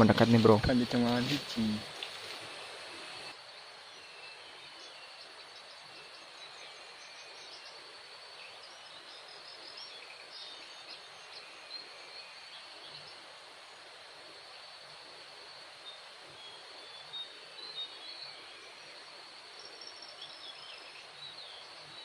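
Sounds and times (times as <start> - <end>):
insect drone: 0.0 - 22.0.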